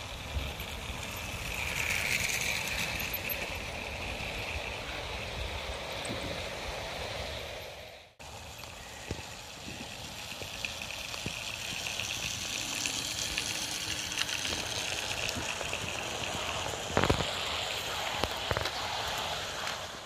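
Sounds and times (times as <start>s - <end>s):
model train rumbling on track: 0.0s - 20.0s
wheels clicking over rail joints: 0.0s - 20.0s.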